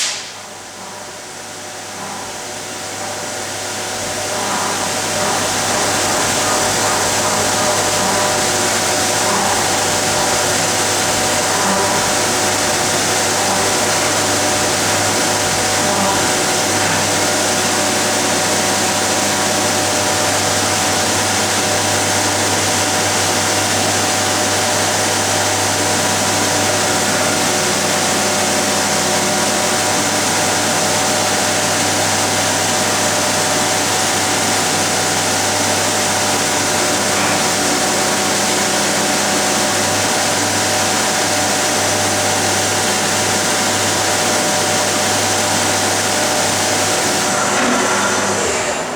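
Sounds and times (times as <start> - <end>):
machining centre running: 0.0 - 48.9.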